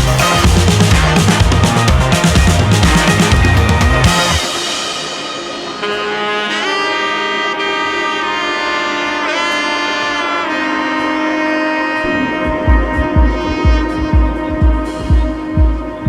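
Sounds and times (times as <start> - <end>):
saxophone-like melody: 0.0 - 16.0
sustained chords: 0.0 - 16.0.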